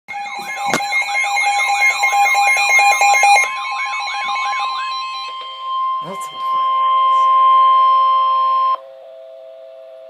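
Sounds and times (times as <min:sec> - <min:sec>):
second steady tone: 0:00.1 - 0:10.0
steady alarm tone: 0:00.1 - 0:10.0
warbling siren-like alert: 0:00.1 - 0:10.0.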